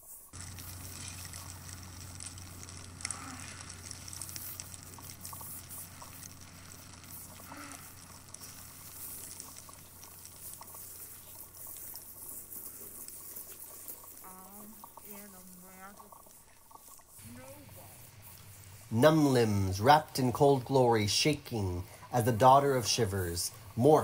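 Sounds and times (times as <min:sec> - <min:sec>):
crackling hiss: 0:00.0 - 0:24.0
low hum: 0:00.3 - 0:24.0.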